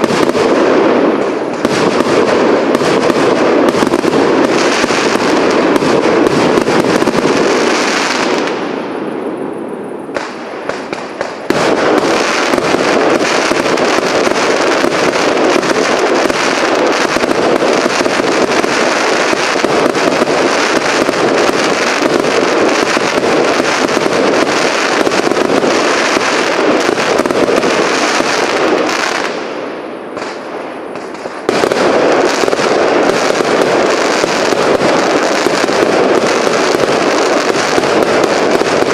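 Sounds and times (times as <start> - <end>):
fireworks launching and bursting: 0.0 - 38.9.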